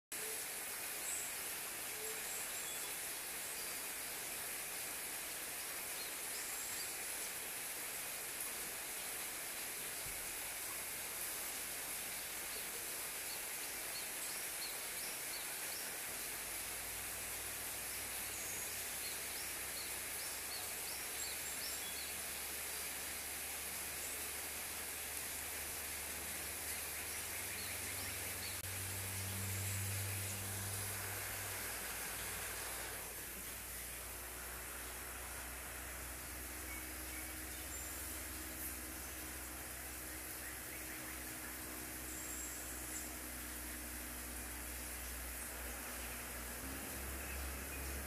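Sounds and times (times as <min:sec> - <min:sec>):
woodland background hiss: 0:00.1 - 0:48.0.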